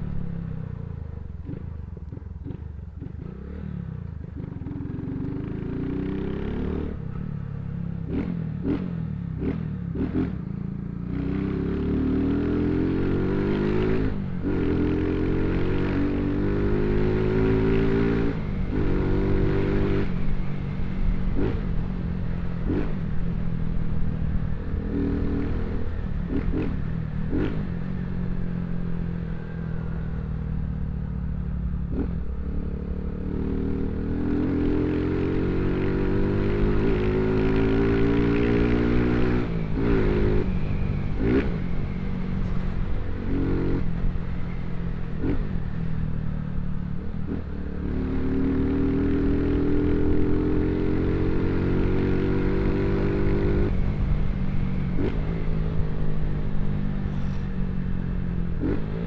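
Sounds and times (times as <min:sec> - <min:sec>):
motorcycle accelerating: 0:00.0 - 0:59.0.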